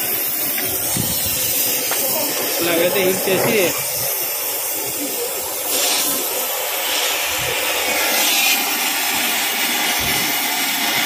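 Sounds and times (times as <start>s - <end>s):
cutting torch flame hissing: 0.0s - 11.0s.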